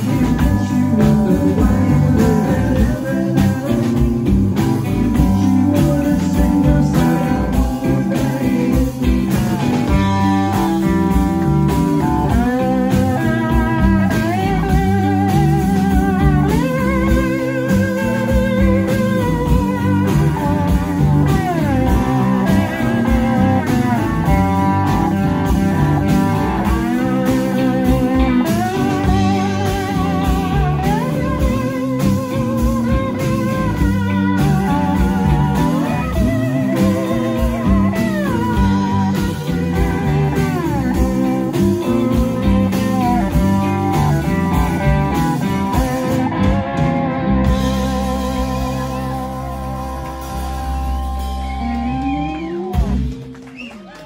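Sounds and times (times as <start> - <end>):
bass guitar: 0.0 - 54.0
drums: 0.0 - 54.0
electric lead guitar: 0.0 - 54.0
live rock band playing: 0.0 - 54.0.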